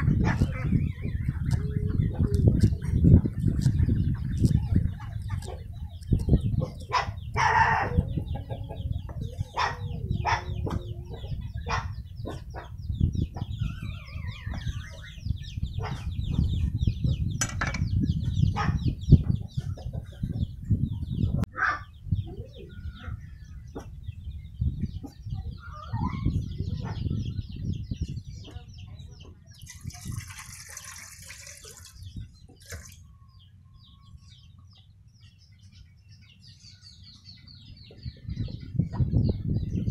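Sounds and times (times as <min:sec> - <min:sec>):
birds calling: 0:00.0 - 0:39.9.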